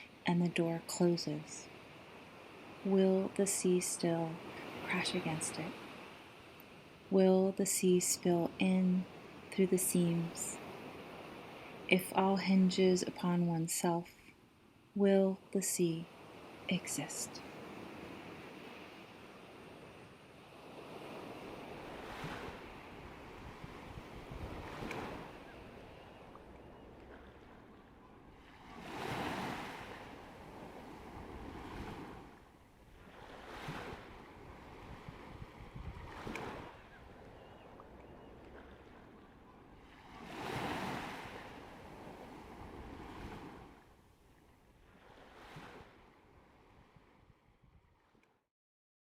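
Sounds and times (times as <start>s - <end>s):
sea waves breaking: 0.0s - 13.8s, 15.6s - 47.1s.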